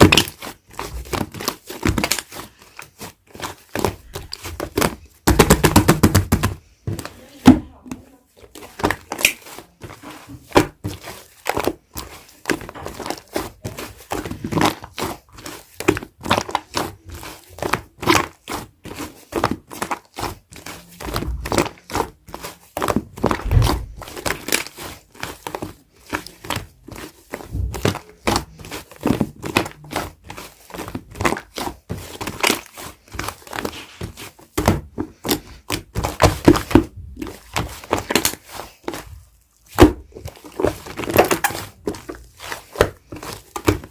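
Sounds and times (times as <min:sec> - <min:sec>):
hands squeezing sticky slime: 0:00.0 - 0:43.9
dull squelching thuds: 0:08.5 - 0:43.9.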